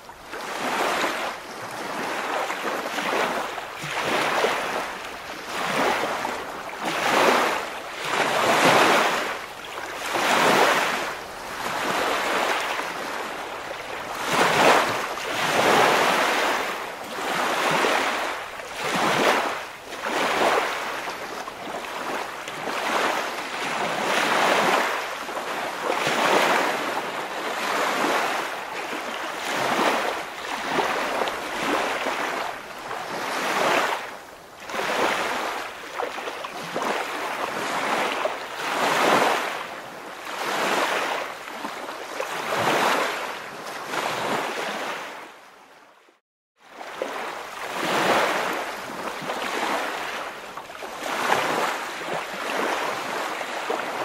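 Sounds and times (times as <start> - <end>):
waves washing in: 0.0 - 45.4, 46.7 - 54.0.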